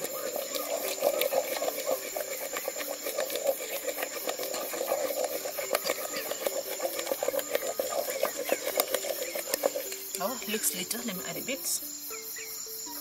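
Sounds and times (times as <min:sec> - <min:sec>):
wooden spoon scraping a saucepan: 0:00.0 - 0:11.8.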